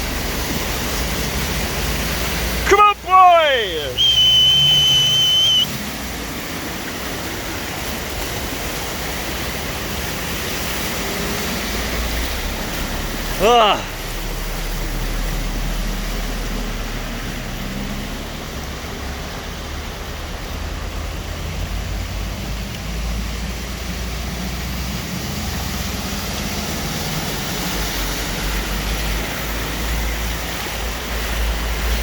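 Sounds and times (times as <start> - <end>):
vehicle engines rumbling: 0.0 - 32.0
water rushing and washing: 0.0 - 32.0.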